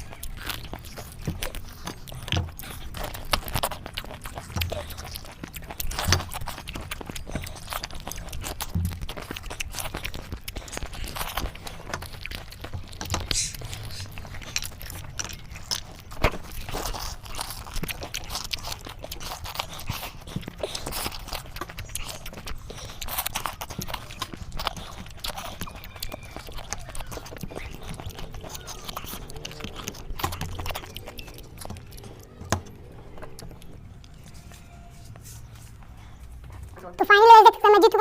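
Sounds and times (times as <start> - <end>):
people chewing lemons: 0.0 - 38.0.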